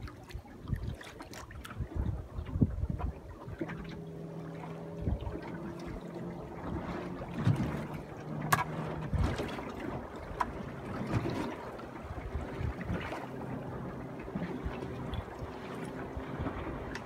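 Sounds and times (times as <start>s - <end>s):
boat engine humming: 0.0s - 17.0s
water splashing against hull: 0.0s - 17.0s.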